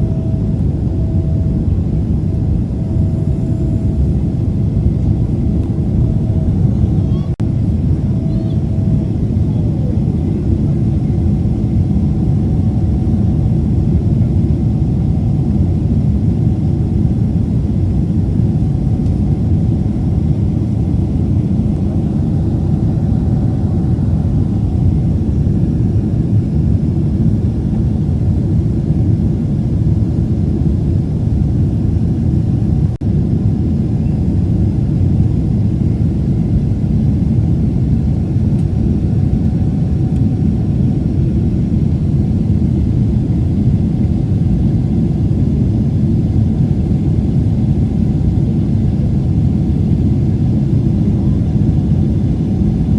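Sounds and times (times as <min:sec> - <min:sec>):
faint steady hum: 0:00.0 - 0:52.9
jet engines rumbling: 0:00.0 - 0:52.9.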